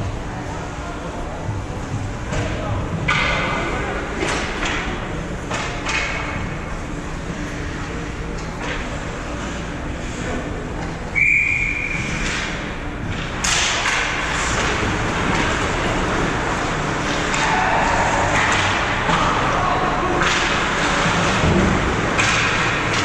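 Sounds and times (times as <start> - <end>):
steady rush of noise: 0.0 - 23.0.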